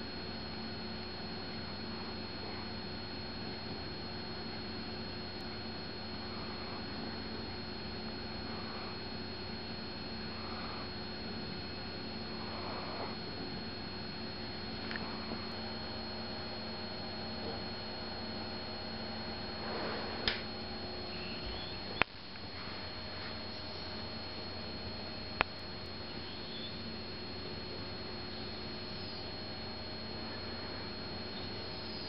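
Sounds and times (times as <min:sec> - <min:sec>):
faint high whine: 0:00.0 - 0:32.0
room tone hum and hiss: 0:00.0 - 0:32.0.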